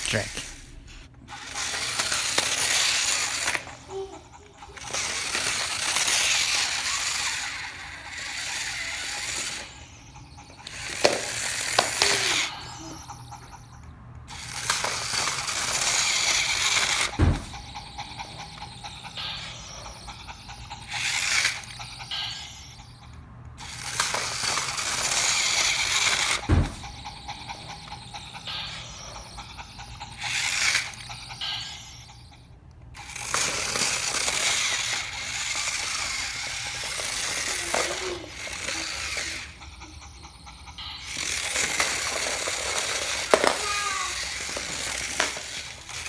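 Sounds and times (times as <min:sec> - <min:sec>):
toy train motor whirring: 0:00.0 - 0:46.0.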